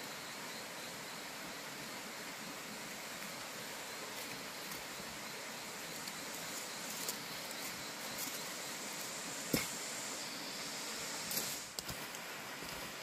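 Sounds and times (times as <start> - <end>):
outdoor background hiss: 0.0 - 13.0
rustles: 2.3 - 13.0.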